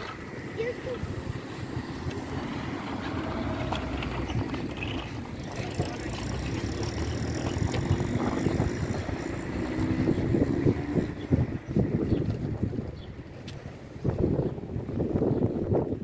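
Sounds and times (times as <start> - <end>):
traffic hum: 0.0 - 16.0
wind rumbling on microphone: 0.0 - 16.0.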